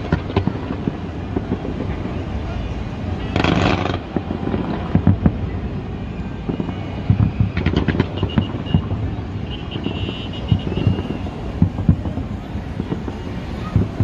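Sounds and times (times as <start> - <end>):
distant fireworks booms: 0.0 - 14.0
fireworks sharp cracks: 0.0 - 14.0
wind rumble on microphone: 0.0 - 14.0.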